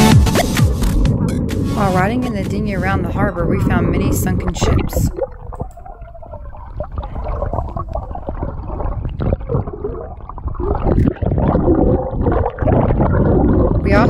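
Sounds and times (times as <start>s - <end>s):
muffled underwater rumble and gurgling: 0.8s - 14.0s.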